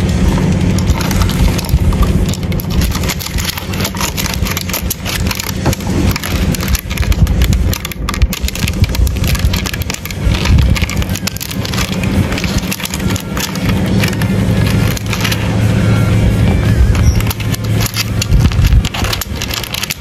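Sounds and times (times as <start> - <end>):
steady low rumble: 0.0 - 20.0
beetles scratching and clicking on bark: 0.8 - 15.6, 16.8 - 20.0.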